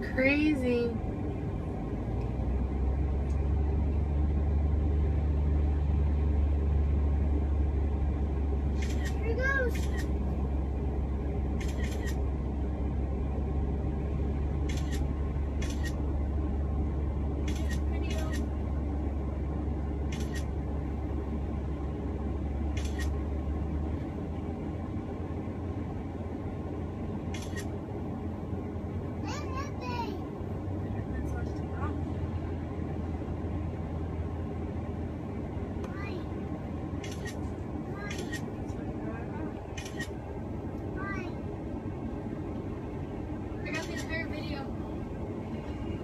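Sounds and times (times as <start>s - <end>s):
propeller plane engine drone: 0.0s - 46.0s.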